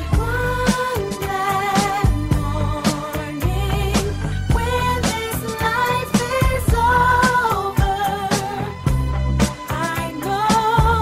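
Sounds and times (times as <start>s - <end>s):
song with drum beat and bass: 0.0s - 11.0s.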